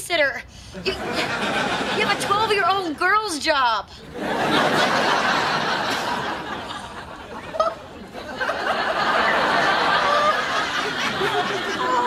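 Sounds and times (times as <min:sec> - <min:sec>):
studio audience laughing: 0:00.8 - 0:02.8, 0:04.0 - 0:12.0.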